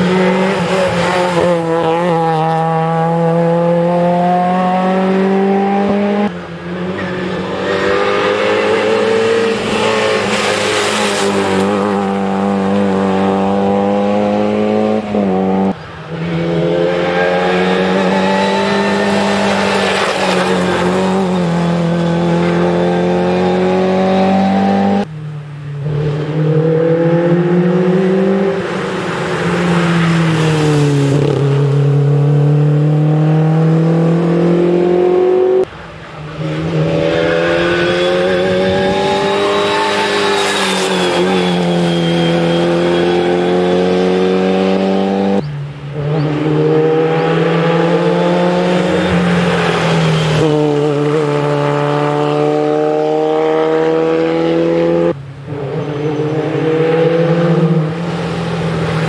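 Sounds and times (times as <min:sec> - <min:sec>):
rally car engines revving high: 0:00.0 - 0:25.1, 0:25.7 - 0:59.0.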